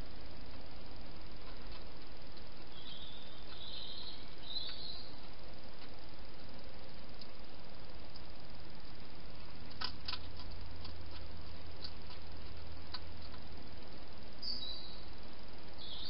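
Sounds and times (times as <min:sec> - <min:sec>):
microphone hiss and hum: 0:00.0 - 0:16.0.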